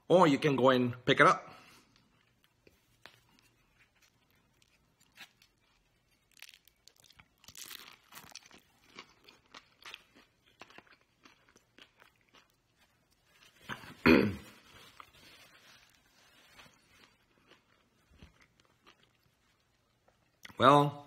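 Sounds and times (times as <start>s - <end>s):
crisp crunchy chewing: 1.9s - 14.0s, 14.6s - 20.6s.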